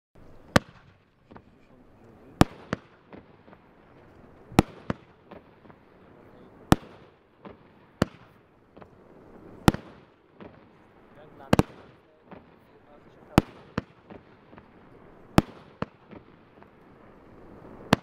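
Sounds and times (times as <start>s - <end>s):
fireworks bangs: 0.2s - 18.0s.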